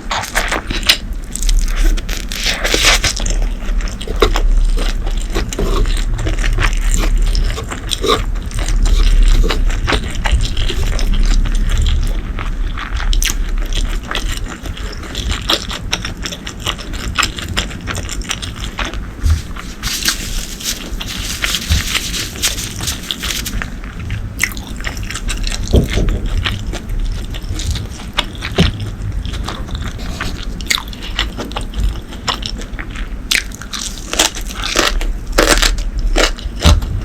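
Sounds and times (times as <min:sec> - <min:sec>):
chewing and crunching: 0:00.0 - 0:37.0.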